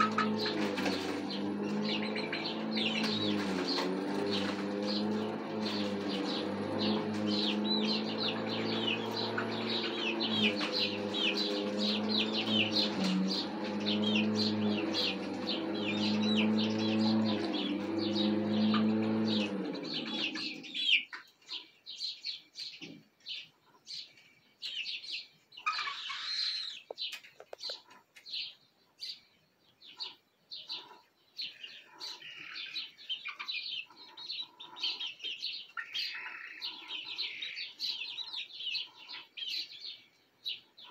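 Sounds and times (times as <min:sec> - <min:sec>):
chicks peeping and chirping: 0:00.0 - 0:40.9.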